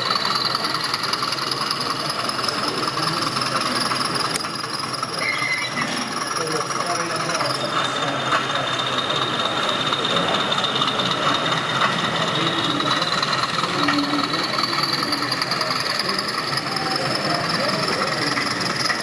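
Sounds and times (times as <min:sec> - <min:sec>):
hall chatter: 0:00.0 - 0:19.0
model train motor whine: 0:00.0 - 0:19.0.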